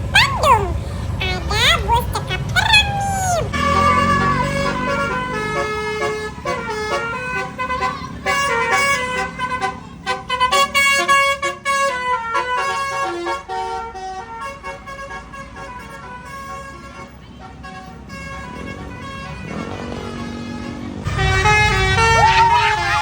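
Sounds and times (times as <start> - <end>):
bus musical horn tune: 3.4 - 23.0.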